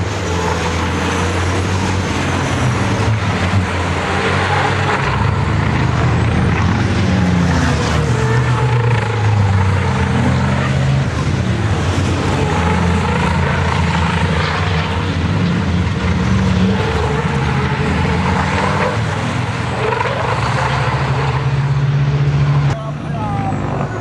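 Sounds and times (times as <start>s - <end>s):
racing truck engines revving: 0.0s - 24.0s.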